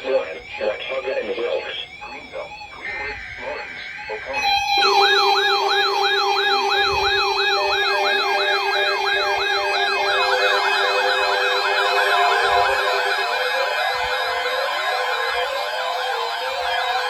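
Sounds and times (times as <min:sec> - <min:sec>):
steady low tone: 0:00.0 - 0:14.5
electronic siren yelping: 0:00.0 - 0:17.0.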